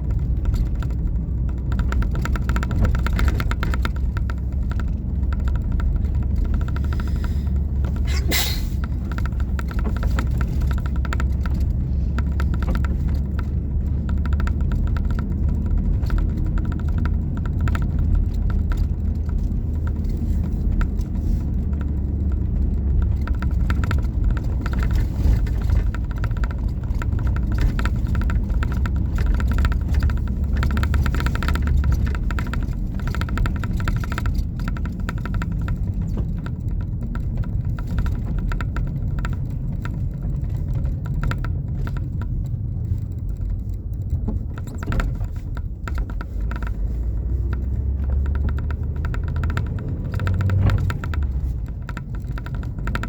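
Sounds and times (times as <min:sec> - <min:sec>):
car driving rumble: 0:00.0 - 0:53.0
sharp click: 0:00.5 - 0:22.4, 0:23.0 - 0:53.0.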